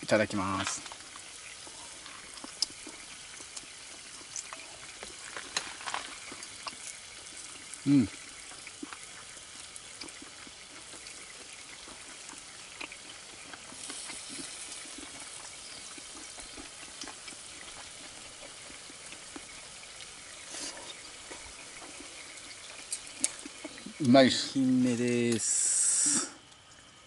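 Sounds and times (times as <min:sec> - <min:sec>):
food sizzling on a grill: 0:00.0 - 0:27.0.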